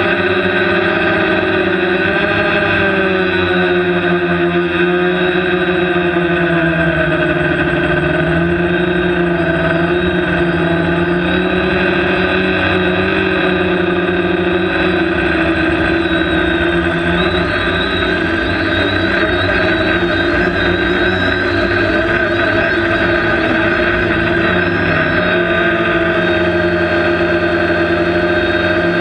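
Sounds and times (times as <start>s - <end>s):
drone propellers whirring: 0.0s - 29.0s.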